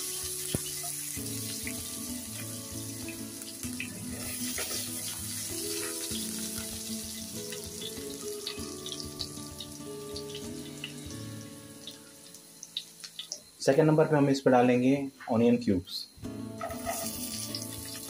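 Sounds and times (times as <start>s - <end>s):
garlic sizzling in hot oil: 0.0s - 13.6s, 16.5s - 18.0s
soft background music: 0.0s - 18.0s.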